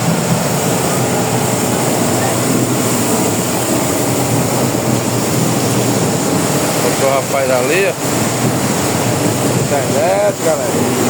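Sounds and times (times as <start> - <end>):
boat engine droning: 0.0 - 11.0
rushing wind: 0.0 - 11.0
water noise: 0.0 - 11.0.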